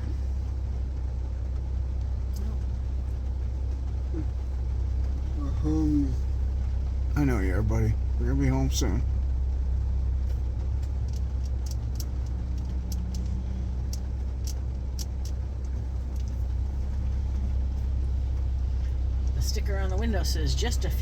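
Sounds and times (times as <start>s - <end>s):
car engine idling: 0.0s - 21.0s
rain ticking on car: 0.0s - 21.0s.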